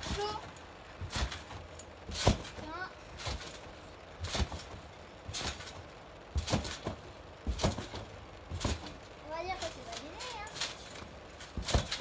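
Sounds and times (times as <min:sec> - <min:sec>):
trampoline thumping and creaking: 0:00.0 - 0:12.0.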